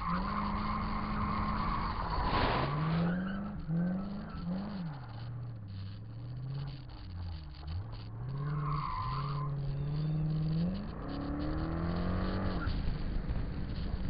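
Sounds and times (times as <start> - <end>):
tire squeal: 0.0 - 12.8
car engine accelerating: 0.0 - 14.0.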